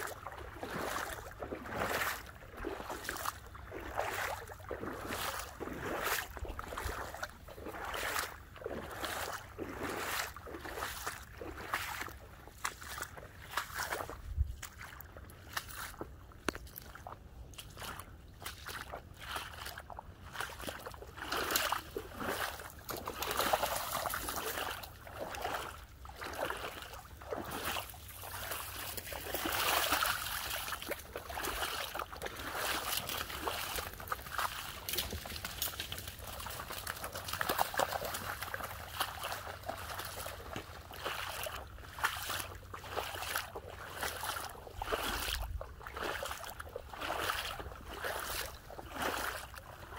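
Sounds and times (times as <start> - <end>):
wading through shallow water: 0.0 - 49.9.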